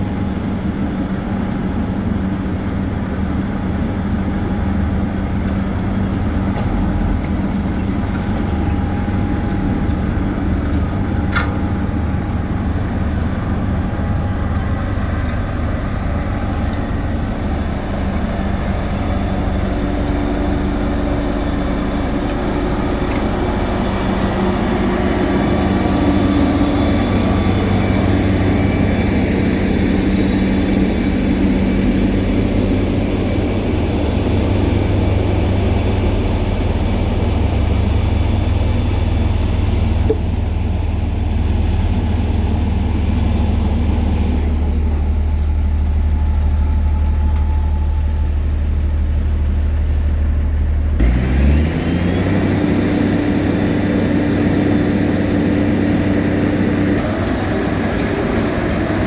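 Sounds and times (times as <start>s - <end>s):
heavy machinery engines droning: 0.0s - 59.0s.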